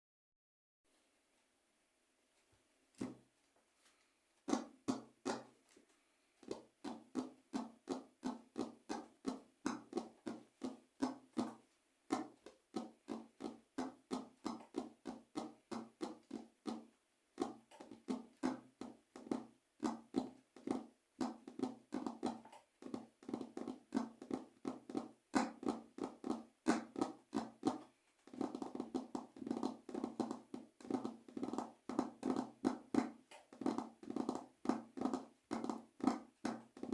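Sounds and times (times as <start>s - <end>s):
fingers tapping a rhythm: 6.4s - 36.9s.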